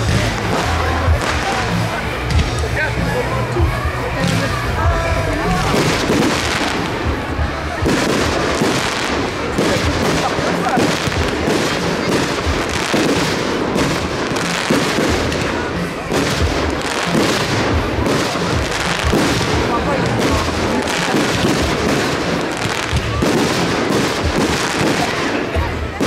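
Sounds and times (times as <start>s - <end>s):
fireworks bangs and pops: 0.0s - 4.8s, 5.4s - 26.0s.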